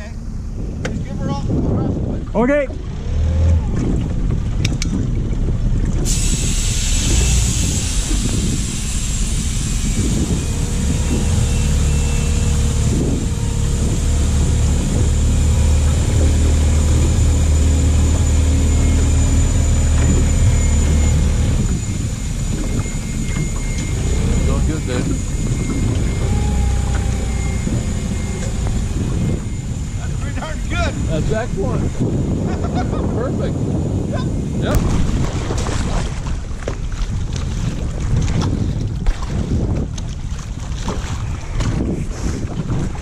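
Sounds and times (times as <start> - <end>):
outboard motor running: 1.9 - 43.0.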